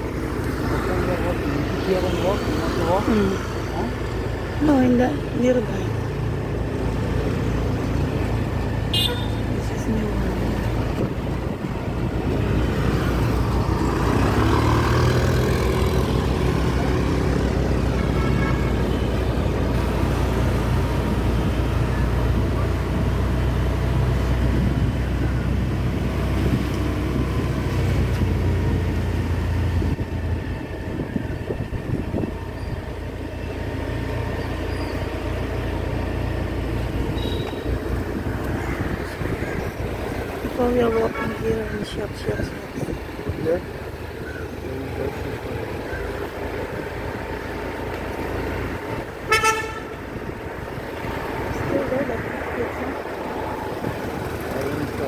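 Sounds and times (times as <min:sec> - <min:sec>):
car engines passing: 0:00.0 - 0:55.0
traffic low rumble: 0:00.0 - 0:55.0.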